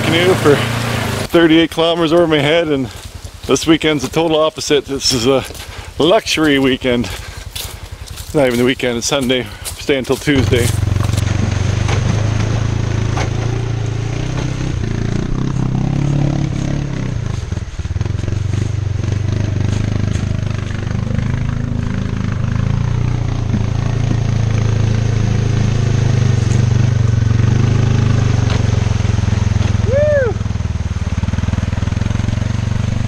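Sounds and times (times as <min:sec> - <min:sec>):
atv engine running under load: 0:00.0 - 0:33.0
water splashing around wheels: 0:00.0 - 0:33.0.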